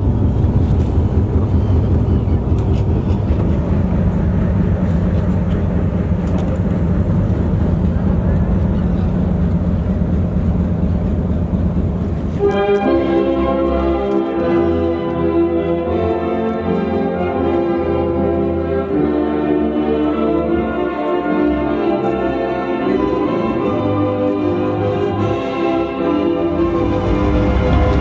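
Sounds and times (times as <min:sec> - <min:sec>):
boat engine rumbling: 0:00.0 - 0:28.0
music with sustained notes: 0:00.0 - 0:28.0.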